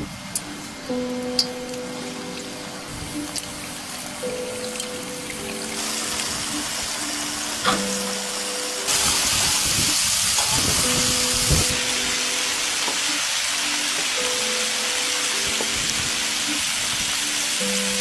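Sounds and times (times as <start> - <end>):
background music with held notes: 0.0 - 18.0
chicken sizzling in hot oil: 3.2 - 18.0.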